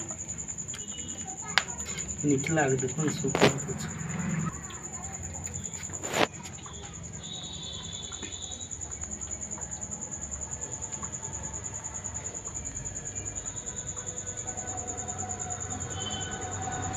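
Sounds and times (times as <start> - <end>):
cricket chirping: 0.0 - 16.9.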